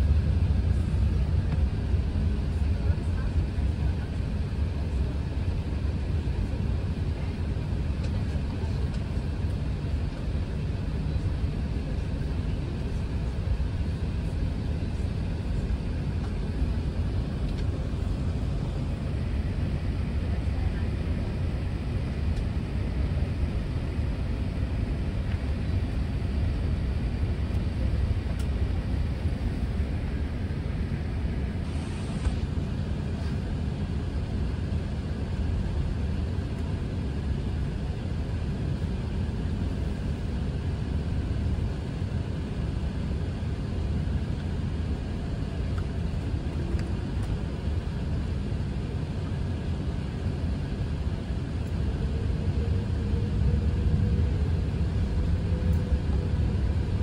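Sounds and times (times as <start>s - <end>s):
aircraft cabin low rumble: 0.0s - 57.0s.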